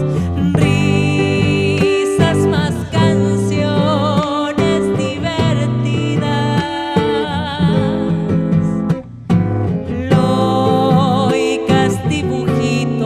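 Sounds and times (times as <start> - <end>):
woman singing with vibrato: 0.0 - 9.0, 9.7 - 13.0
acoustic guitar strumming: 0.0 - 13.0.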